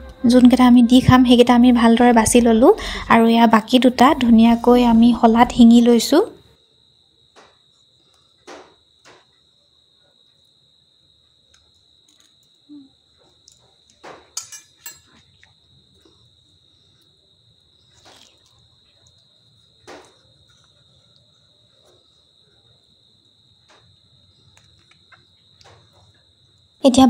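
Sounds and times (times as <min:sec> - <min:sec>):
cricket trilling: 0:00.0 - 0:27.0.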